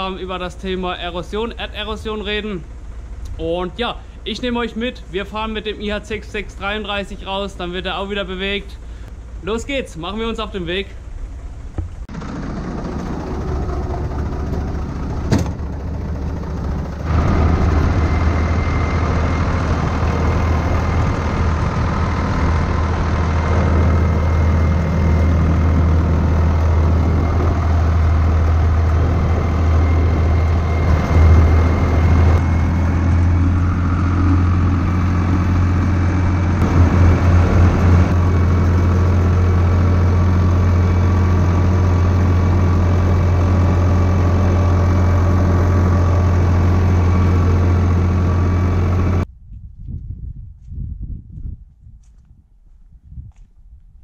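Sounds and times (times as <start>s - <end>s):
tractor diesel engine running: 0.0s - 49.3s.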